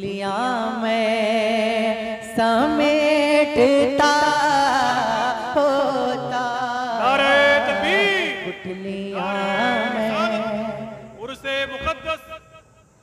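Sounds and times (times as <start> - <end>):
man singing devotional song: 1.7 - 12.5.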